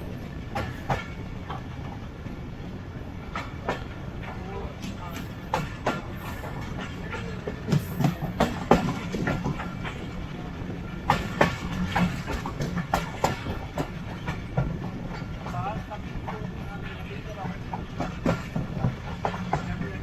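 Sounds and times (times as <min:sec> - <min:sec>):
train rumble: 0:00.0 - 0:20.0
wheels clacking over rail joints: 0:00.0 - 0:20.0.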